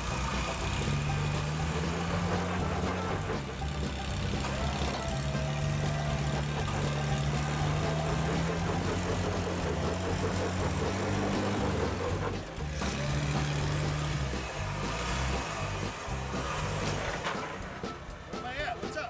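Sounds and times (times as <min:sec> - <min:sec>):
truck engine at low revs: 0:00.0 - 0:18.4.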